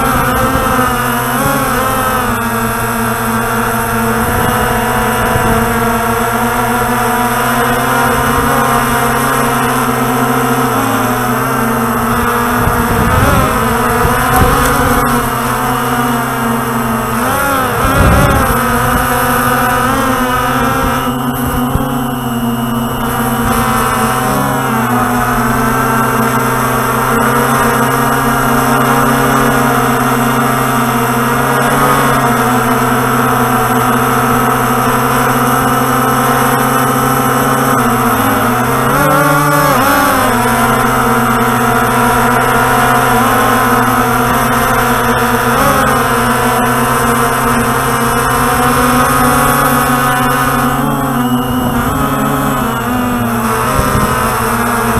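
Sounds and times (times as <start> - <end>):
drone motors whining: 0.0 - 54.9.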